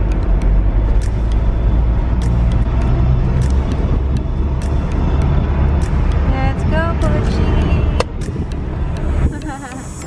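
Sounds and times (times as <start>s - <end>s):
low rumble of engine and tyres: 0.0s - 10.0s.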